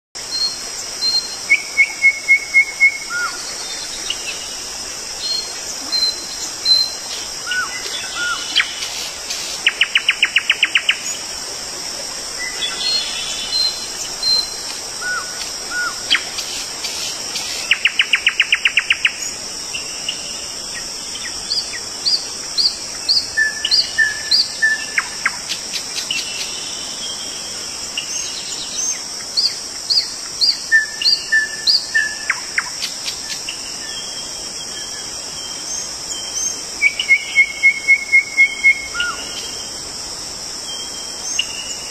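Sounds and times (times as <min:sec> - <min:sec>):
high insect buzz: 0:00.3 - 0:41.9.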